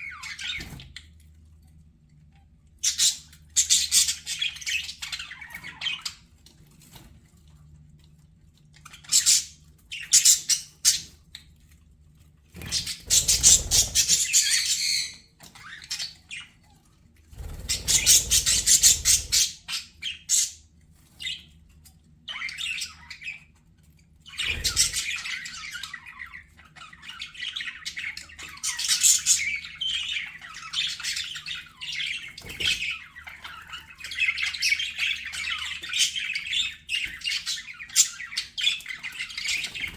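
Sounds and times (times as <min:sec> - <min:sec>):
budgerigars chattering and squawking: 0:00.0 - 0:01.0, 0:02.8 - 0:06.4, 0:08.8 - 0:11.2, 0:12.6 - 0:16.7, 0:17.4 - 0:21.5, 0:22.2 - 0:23.5, 0:24.2 - 0:39.9.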